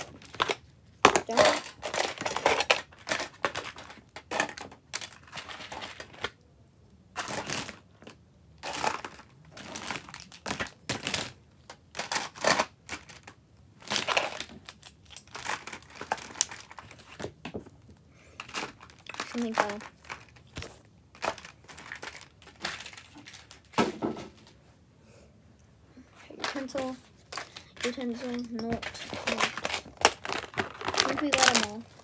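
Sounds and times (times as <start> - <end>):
plastic pens clicking and clattering: 0.0 - 6.4, 7.1 - 17.6, 18.4 - 23.9, 26.3 - 32.0.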